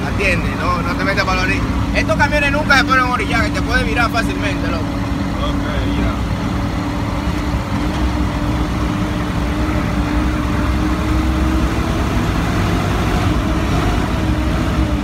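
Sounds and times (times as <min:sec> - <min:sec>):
road rumble: 0:00.0 - 0:15.0
truck engine drone: 0:00.0 - 0:15.0.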